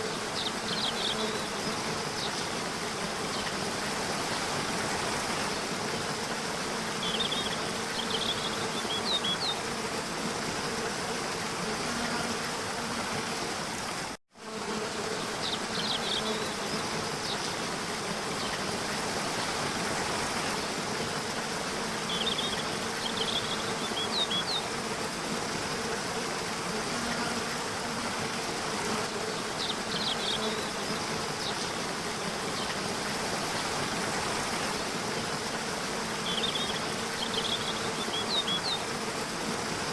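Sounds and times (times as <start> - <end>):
low insect buzz: 0.0 - 39.9.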